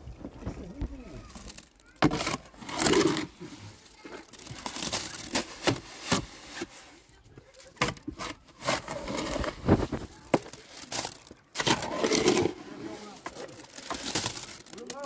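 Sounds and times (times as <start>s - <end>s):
scraping: 0.2s - 15.0s.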